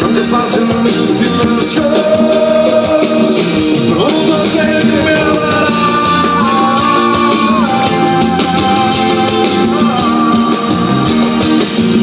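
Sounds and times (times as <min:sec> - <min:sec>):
pop-rock ballad music: 0:00.0 - 0:12.0.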